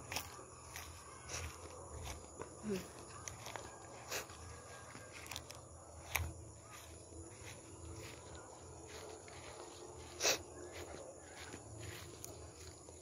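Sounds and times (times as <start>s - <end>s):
footsteps through grass: 0.0s - 13.0s
high insect drone: 0.0s - 13.0s.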